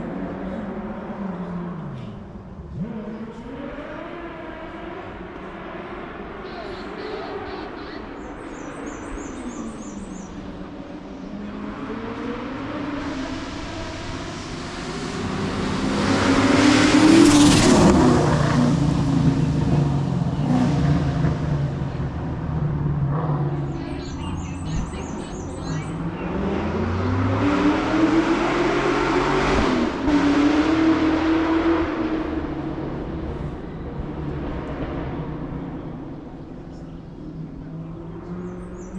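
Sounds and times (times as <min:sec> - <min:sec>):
race car engines at full throttle: 0:00.0 - 0:38.9.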